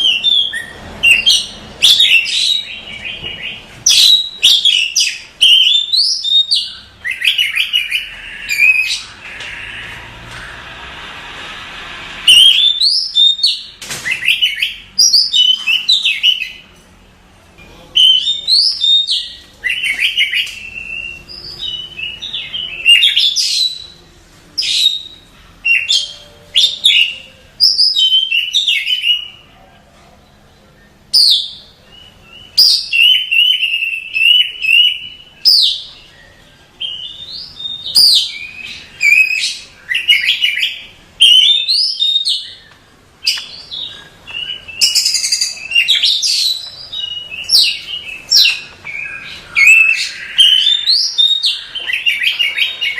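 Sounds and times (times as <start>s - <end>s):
bird whistling and chirping: 0.0s - 10.1s, 12.3s - 16.6s, 17.9s - 24.0s, 24.6s - 29.4s, 31.1s - 52.9s.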